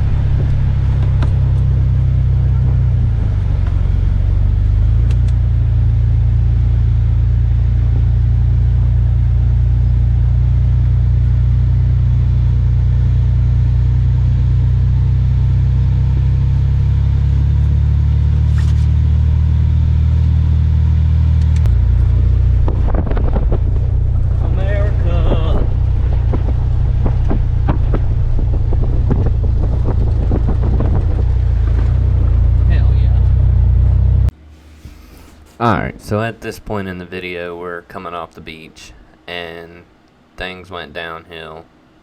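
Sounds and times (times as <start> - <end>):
vehicle engine and road rumble: 0.0 - 39.2.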